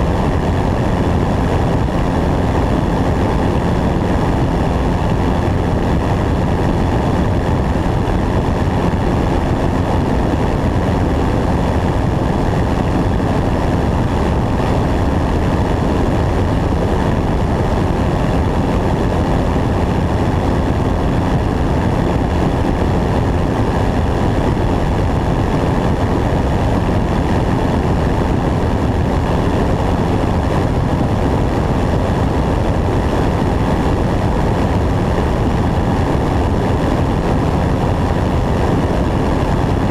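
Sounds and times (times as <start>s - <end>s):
light airplane engine and propeller: 0.0s - 39.9s
wind rushing over camera: 0.0s - 39.9s.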